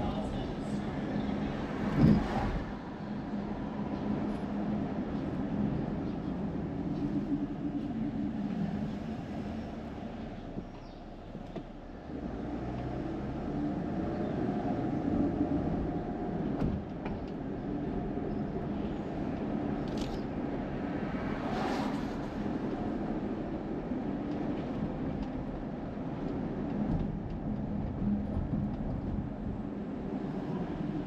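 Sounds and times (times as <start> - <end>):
road and engine noise inside car: 0.0 - 31.0.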